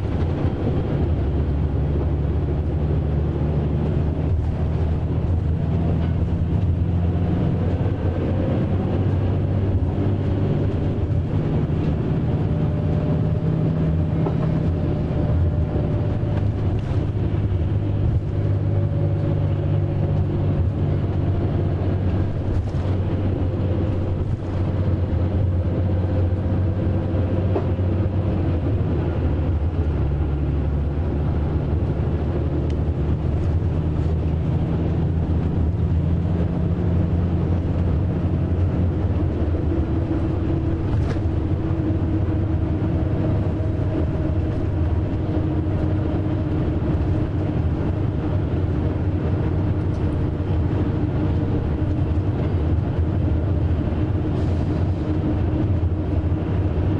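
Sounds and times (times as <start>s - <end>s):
diesel engine drone: 0.0s - 56.9s
road noise: 0.0s - 56.9s.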